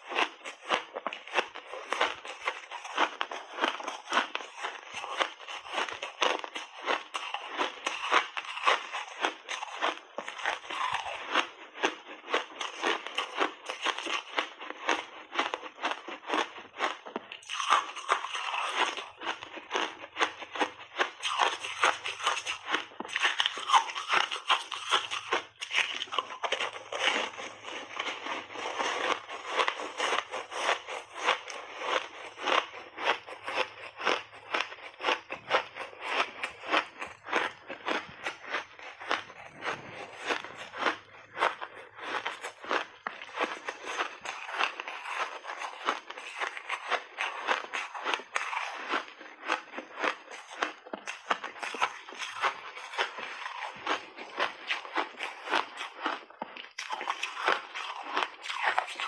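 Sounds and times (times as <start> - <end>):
ice being crunched by teeth: 0.0 - 59.0.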